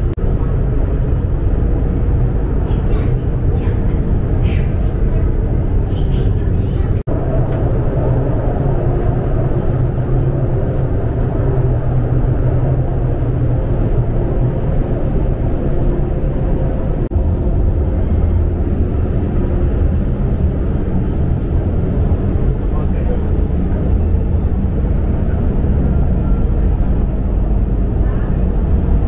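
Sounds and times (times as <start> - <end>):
metro train wheels rumbling on rails: 0.0 - 29.0
traction motor hum: 3.3 - 29.0.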